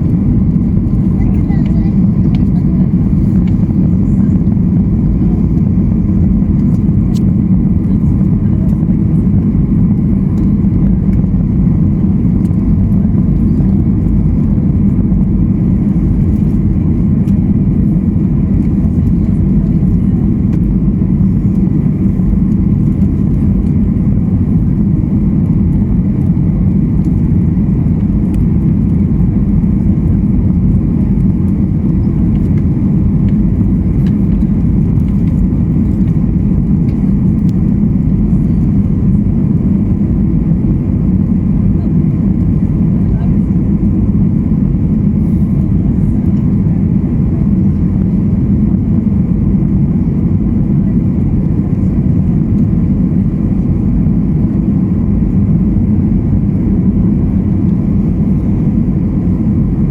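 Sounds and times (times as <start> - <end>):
jet engine and airflow in cabin: 0.0 - 59.9.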